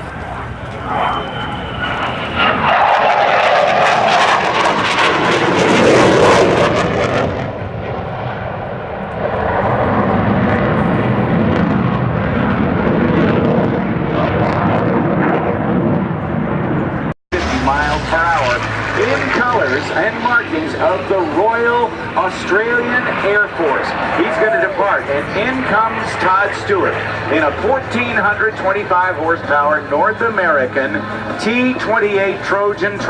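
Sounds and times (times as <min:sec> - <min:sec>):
airplane engine passing: 0:00.0 - 0:33.0.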